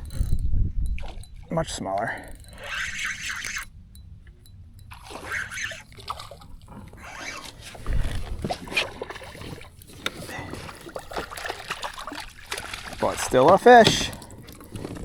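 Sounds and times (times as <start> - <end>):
fish splashing: 2.2 - 15.0.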